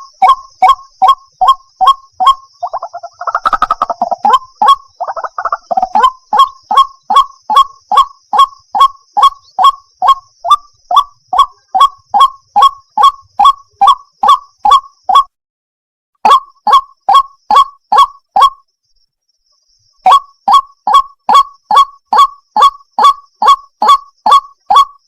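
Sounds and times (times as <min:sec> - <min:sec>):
waterhen honking calls: 0:00.0 - 0:15.3, 0:16.2 - 0:18.6, 0:20.1 - 0:25.0.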